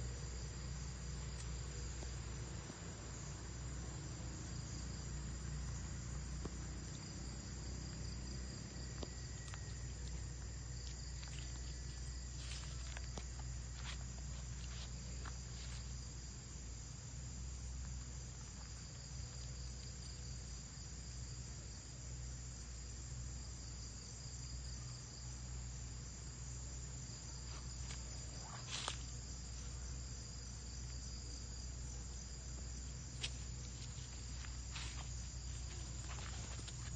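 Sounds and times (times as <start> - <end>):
insect chorus: 0.0 - 36.9.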